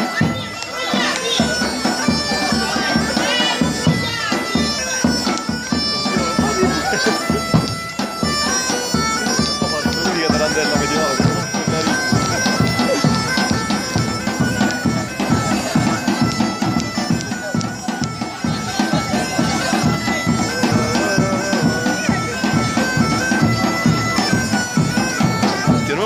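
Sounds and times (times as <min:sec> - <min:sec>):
bagpipe dance tune: 0:00.0 - 0:26.0
steady drum beat: 0:00.0 - 0:26.0.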